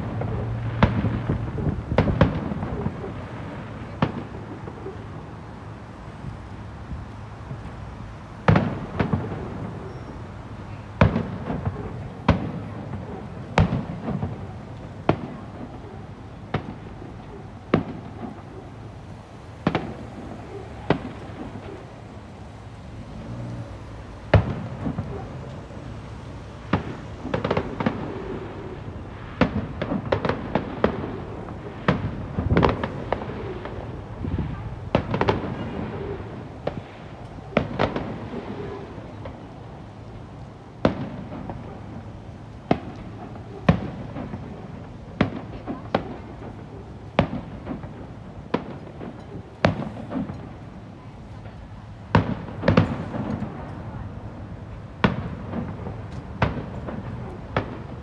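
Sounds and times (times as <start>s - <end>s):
fireworks bangs with rumbling echo: 0.0s - 58.0s.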